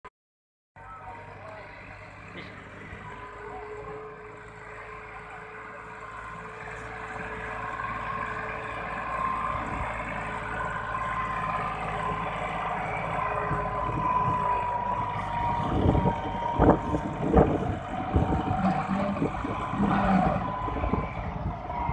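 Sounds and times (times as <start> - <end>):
tractor diesel engine under load: 0.8 - 21.9.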